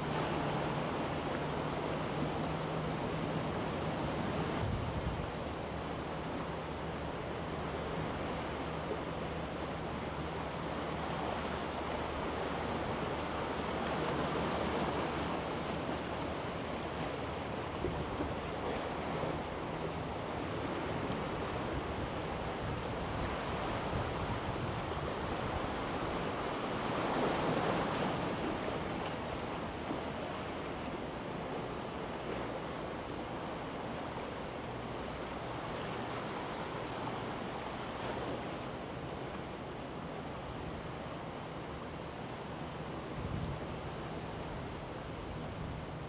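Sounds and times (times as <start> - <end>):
sea surf washing ashore: 0.0 - 46.0.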